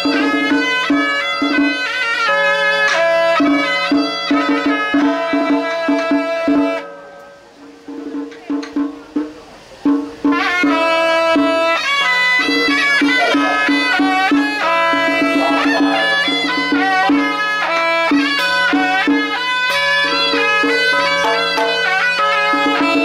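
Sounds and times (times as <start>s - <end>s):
wind instrument melody with drone: 0.0s - 7.9s, 10.1s - 23.0s.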